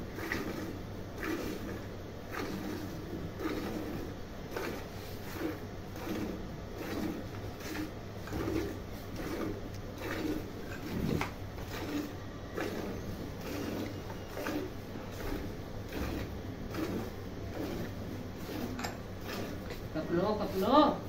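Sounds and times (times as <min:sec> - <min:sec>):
milk squirting into steel bucket: 0:00.1 - 0:20.0.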